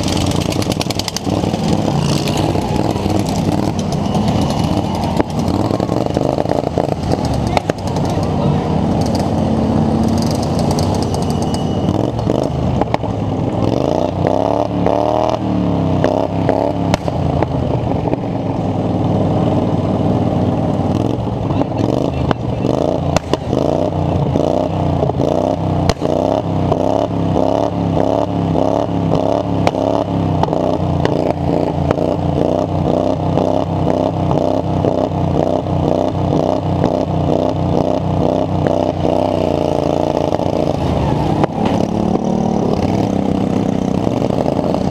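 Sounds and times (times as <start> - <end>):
lawn mower engine revving: 0.0 - 17.2, 19.2 - 44.9.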